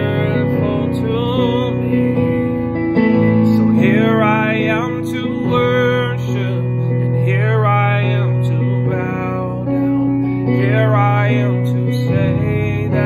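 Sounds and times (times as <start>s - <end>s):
held instrumental chords: 0.0s - 13.0s
man singing: 0.0s - 13.0s.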